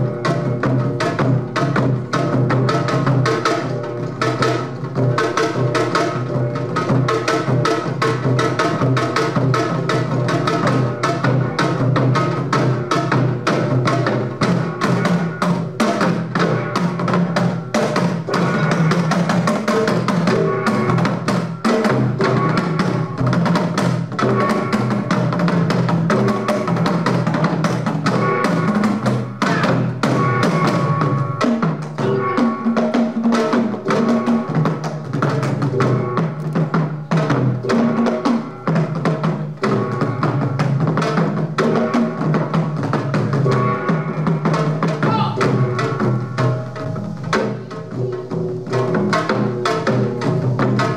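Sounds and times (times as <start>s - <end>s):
drums beating fast: 0.0s - 50.9s.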